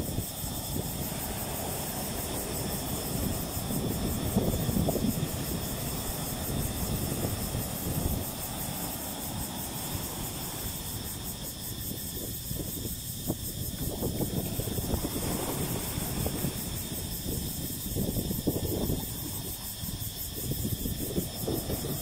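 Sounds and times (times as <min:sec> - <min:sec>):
ocean waves breaking: 0:00.0 - 0:12.2, 0:13.8 - 0:22.0.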